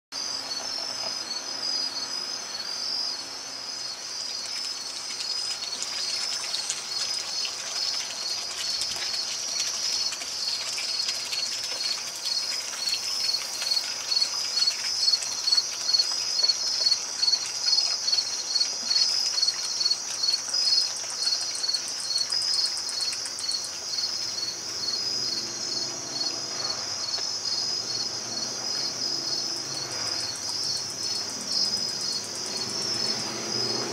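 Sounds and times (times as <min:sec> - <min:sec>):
crickets chirping: 0:00.2 - 0:33.9
nearby cricket chirping: 0:00.2 - 0:33.9
faint water trickle: 0:03.7 - 0:33.9.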